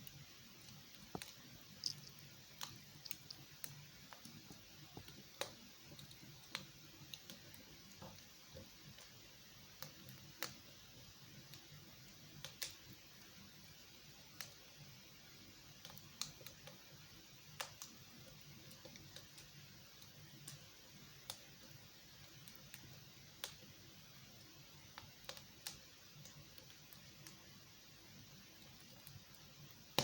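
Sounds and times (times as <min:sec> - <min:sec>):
faint fire hiss: 0:00.0 - 0:30.0
wood fire crackling: 0:00.0 - 0:30.0.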